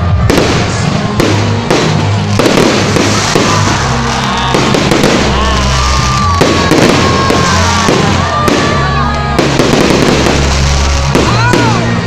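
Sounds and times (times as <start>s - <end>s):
fireworks crackling and popping: 0.0s - 12.0s
loud music with heavy bass: 0.0s - 12.0s.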